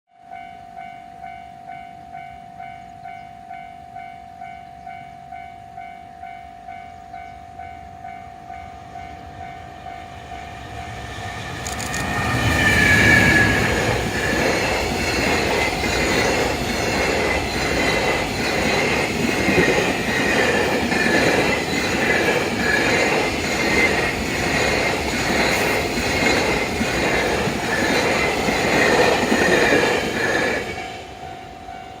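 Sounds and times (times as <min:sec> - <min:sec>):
freight train passing: 0:00.2 - 0:32.0.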